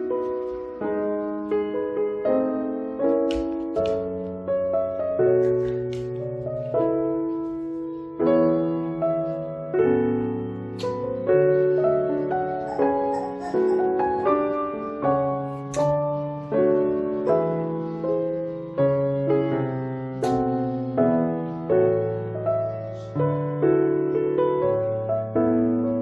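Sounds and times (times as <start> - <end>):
soft piano chords: 0.0 - 26.0.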